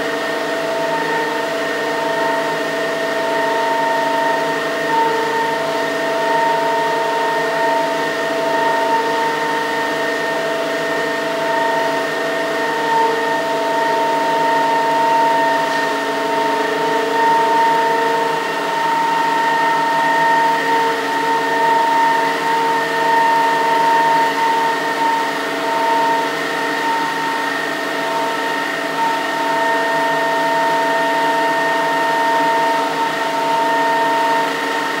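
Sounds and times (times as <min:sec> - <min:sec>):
turbine generator whine: 0:00.0 - 0:35.0.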